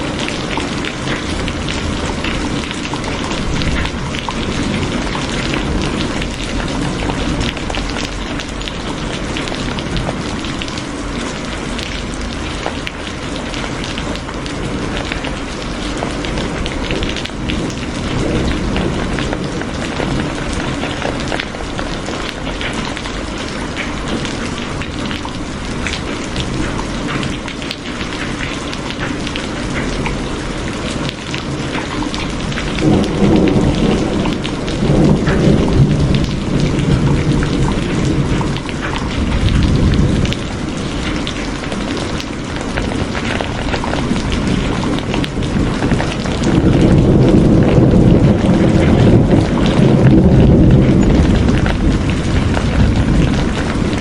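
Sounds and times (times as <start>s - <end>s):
rolling thunder: 0.0s - 28.4s, 29.3s - 54.0s
heavy rain pattering: 0.0s - 54.0s.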